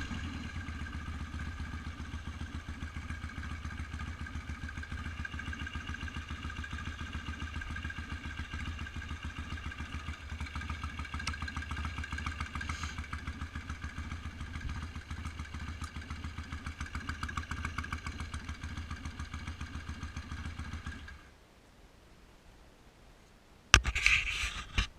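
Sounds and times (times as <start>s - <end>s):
motorcycle engine idling: 0.0s - 21.4s.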